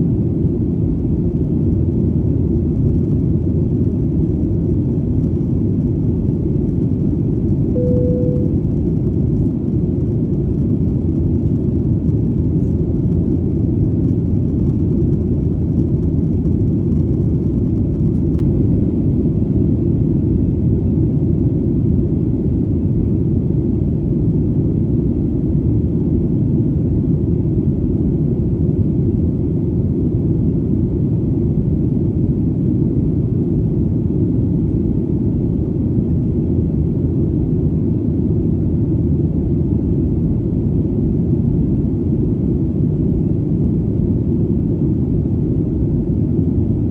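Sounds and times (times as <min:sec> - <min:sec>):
airplane engine rumble: 0:00.0 - 0:46.9.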